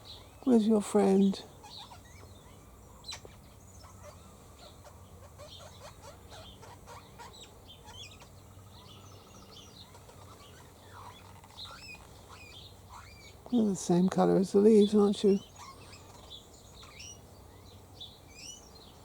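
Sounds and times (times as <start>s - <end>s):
birds chirping and whistling: 1.5s - 13.8s, 14.8s - 19.0s.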